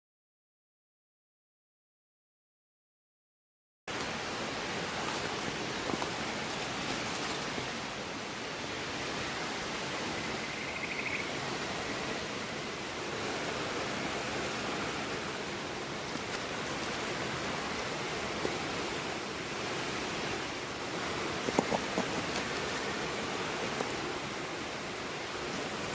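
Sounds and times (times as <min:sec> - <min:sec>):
river water rushing: 0:03.9 - 0:25.9.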